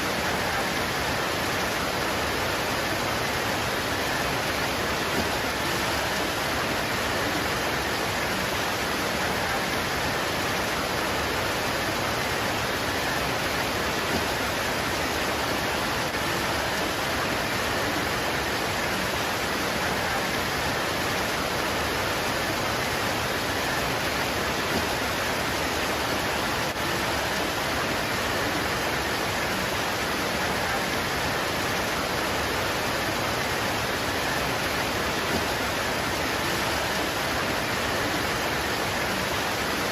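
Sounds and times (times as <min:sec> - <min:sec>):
rain pouring on leaves: 0:00.0 - 0:39.9.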